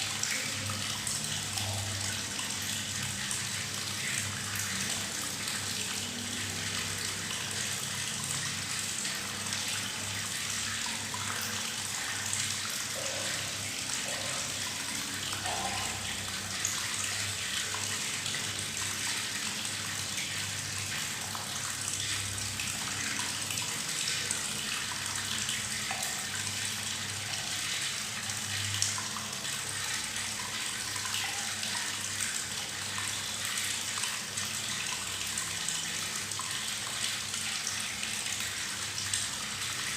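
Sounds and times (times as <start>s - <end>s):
tap water running into bathtub: 0.0s - 39.9s
water bubbling and gurgling: 0.0s - 39.9s.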